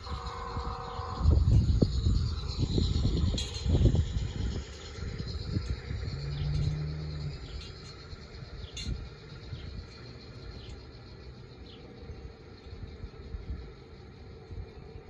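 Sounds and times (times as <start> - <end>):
small bird chirping: 0.0 - 12.2
low outdoor rumble: 0.0 - 15.0.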